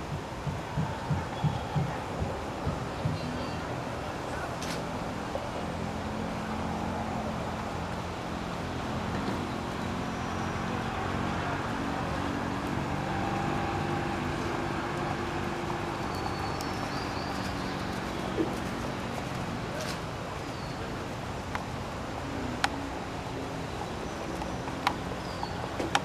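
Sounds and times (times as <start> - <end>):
background rush: 0.0 - 26.0
low mechanical hum: 0.0 - 26.0.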